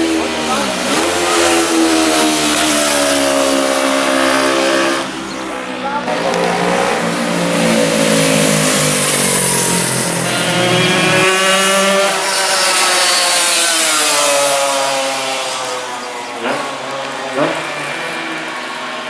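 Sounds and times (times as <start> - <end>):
racing motorcycles passing: 0.0 - 19.0.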